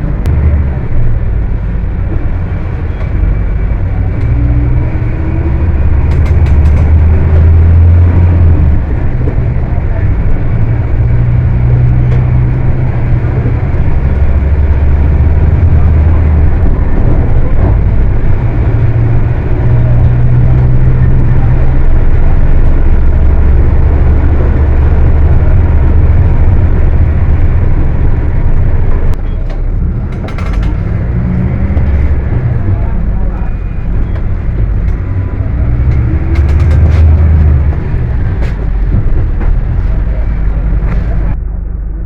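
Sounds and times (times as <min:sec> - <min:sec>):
diesel engine revving high: 0:00.0 - 0:42.0.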